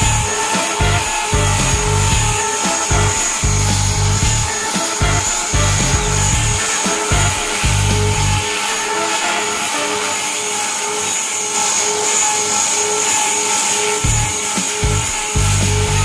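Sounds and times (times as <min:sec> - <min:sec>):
toy helicopter rotor whine: 0:00.0 - 0:16.0.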